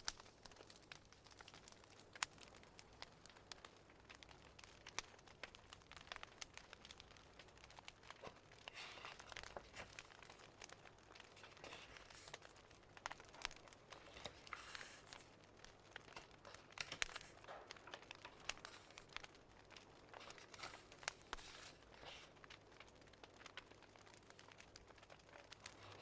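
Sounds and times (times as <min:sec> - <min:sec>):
fire soft hiss: 0:00.0 - 0:26.0
wood fire crackling and popping: 0:00.0 - 0:26.0.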